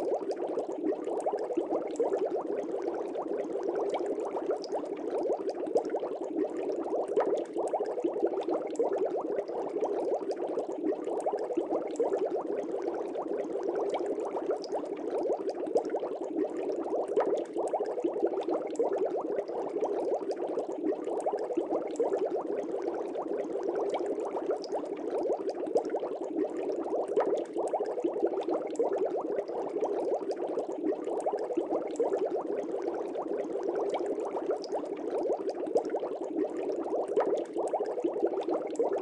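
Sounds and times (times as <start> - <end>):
aquarium water bubbling: 0.0 - 39.0.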